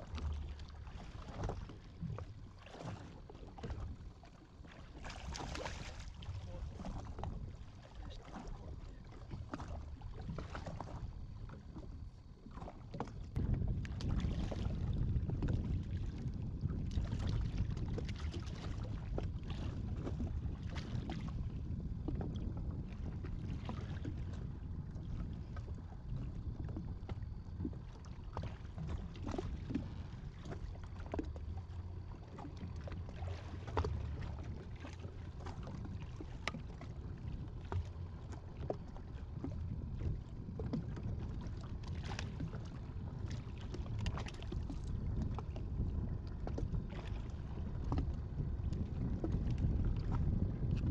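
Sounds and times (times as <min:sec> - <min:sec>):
water slapping against hull: 0:00.0 - 0:50.9
wind rumble: 0:05.1 - 0:50.9.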